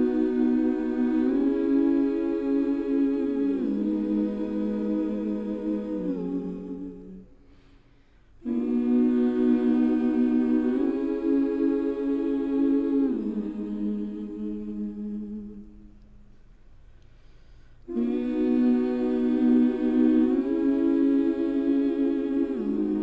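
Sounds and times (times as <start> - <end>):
a cappella choir singing: 0.0 - 16.3, 17.8 - 23.0.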